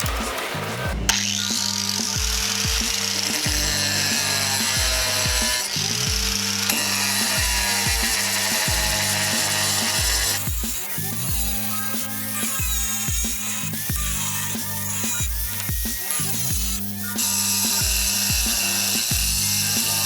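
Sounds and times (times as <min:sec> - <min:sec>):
angle grinder cutting tile: 0:00.0 - 0:20.0
background music with beat: 0:00.0 - 0:20.0.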